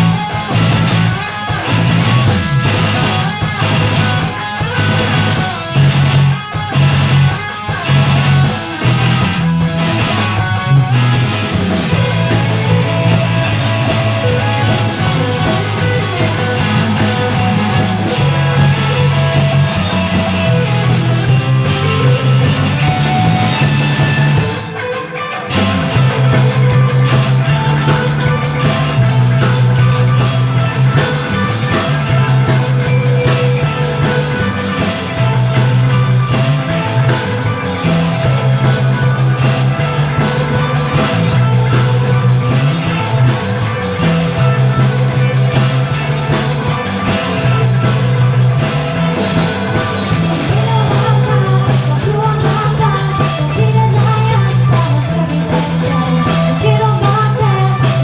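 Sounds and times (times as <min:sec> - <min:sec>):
drum kit fast beat: 0:00.0 - 0:24.8, 0:25.5 - 0:58.0
bass guitar riff: 0:00.0 - 0:58.0
electric guitars: 0:00.0 - 0:58.0.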